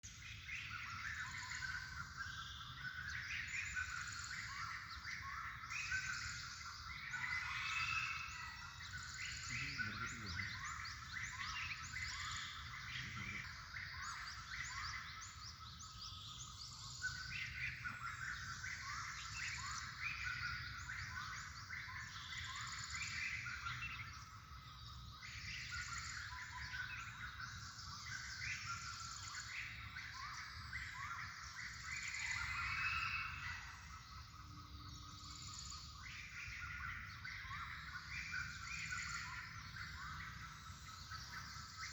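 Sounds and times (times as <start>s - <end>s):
flock of small birds chirping: 0.0s - 41.9s.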